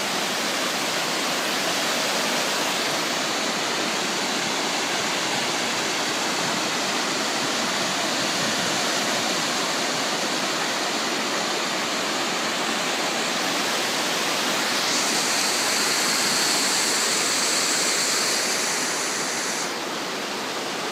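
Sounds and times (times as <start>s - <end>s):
floodwater rushing: 0.0s - 20.9s.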